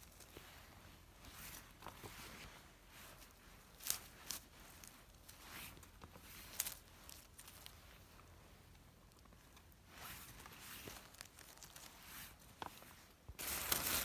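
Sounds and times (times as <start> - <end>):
hands rustling through leaves: 0.0 - 14.0
twigs crackling: 0.0 - 14.0.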